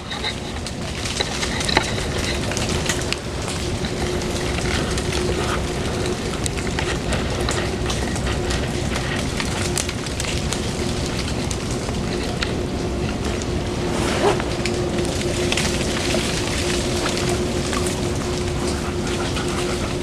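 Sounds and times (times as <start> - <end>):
ice and drips pattering: 0.0 - 20.0.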